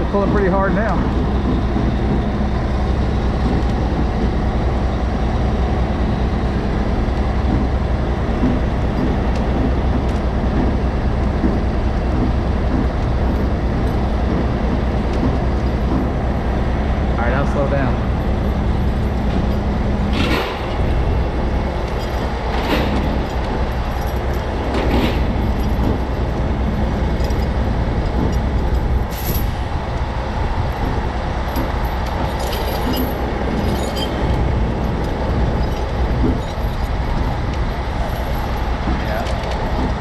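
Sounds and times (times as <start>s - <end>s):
heavy diesel truck engine running: 0.0s - 40.0s
rigging clanks: 0.0s - 40.0s.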